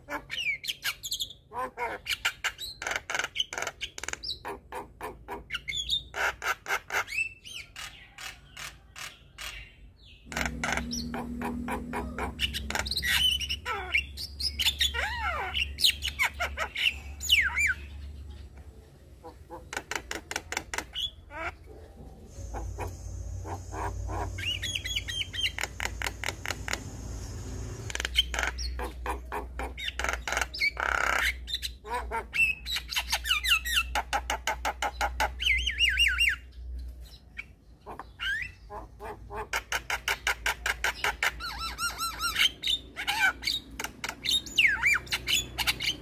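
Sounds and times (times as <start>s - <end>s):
bird singing harsh chattering notes: 5.5s - 18.6s, 19.3s - 46.0s.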